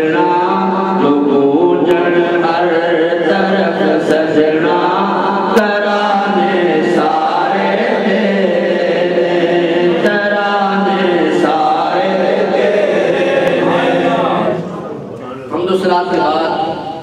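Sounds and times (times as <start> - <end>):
man chanting over loudspeaker: 0.0 - 17.0.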